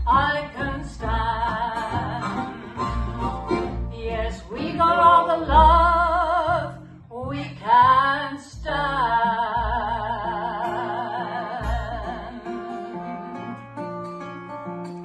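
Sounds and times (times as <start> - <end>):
bass: 0.0 - 15.0
strummed acoustic guitar: 0.0 - 15.0.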